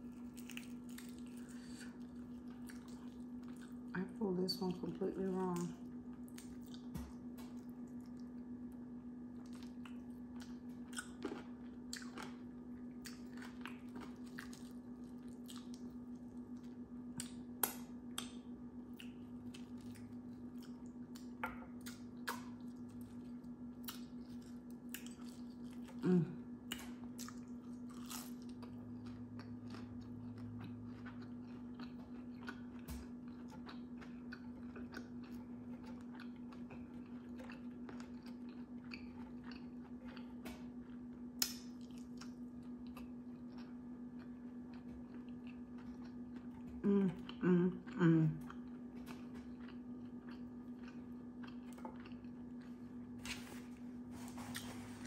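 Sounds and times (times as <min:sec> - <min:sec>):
crunchy chewing and biting: 0:00.0 - 0:03.9, 0:05.4 - 0:26.0, 0:26.6 - 0:47.4, 0:48.4 - 0:55.0
steady low hum: 0:00.0 - 0:55.0.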